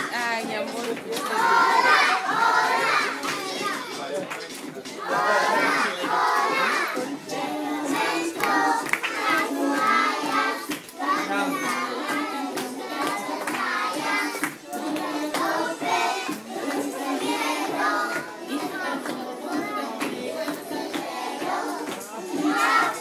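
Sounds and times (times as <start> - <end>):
children singing: 0.0 - 4.2, 4.8 - 23.0.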